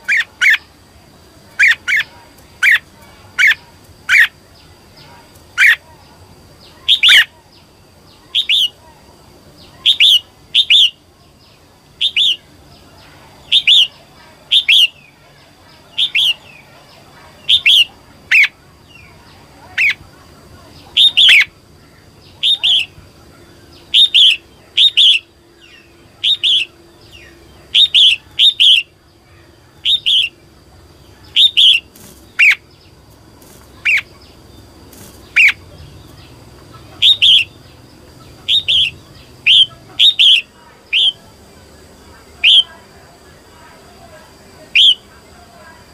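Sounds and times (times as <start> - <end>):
bird chirping: 1.5 - 8.9, 9.5 - 15.3, 15.9 - 45.8.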